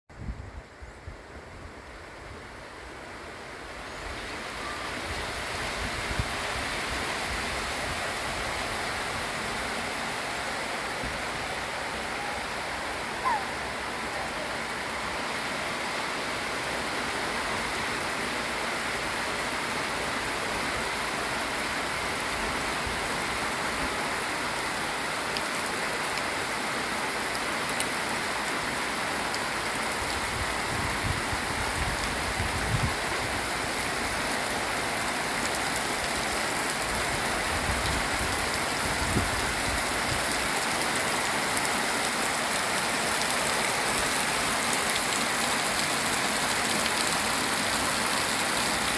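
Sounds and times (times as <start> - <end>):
rain falling: 0.3 - 48.9.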